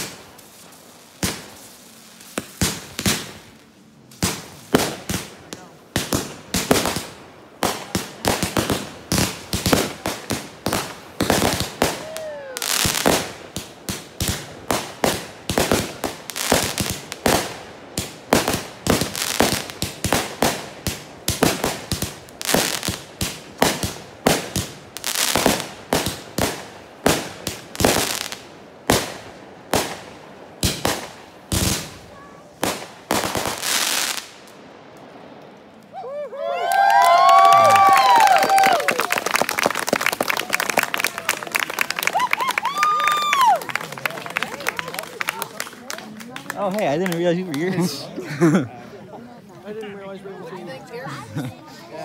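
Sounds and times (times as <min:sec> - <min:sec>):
fireworks bangs and crackling: 0:00.0 - 0:36.2, 0:36.8 - 0:48.1.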